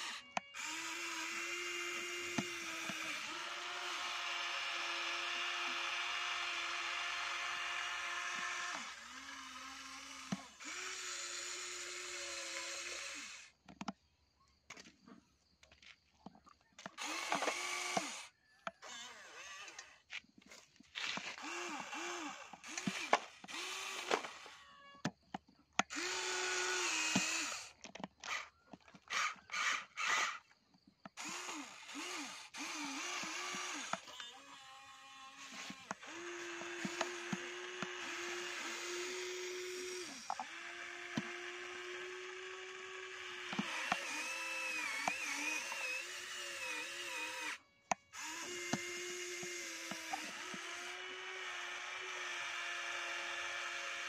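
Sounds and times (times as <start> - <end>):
electric motors whining: 0.0 - 13.6, 16.8 - 20.1, 21.0 - 25.1, 25.8 - 54.0.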